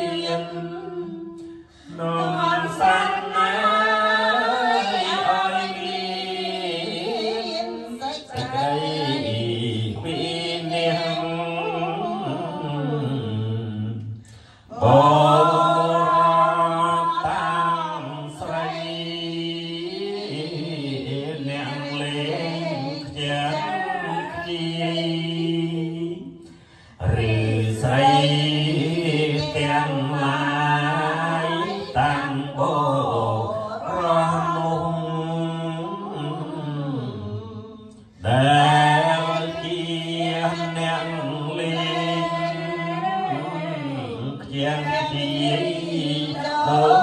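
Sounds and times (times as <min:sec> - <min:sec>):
group chanting in unison: 0:00.0 - 0:47.0.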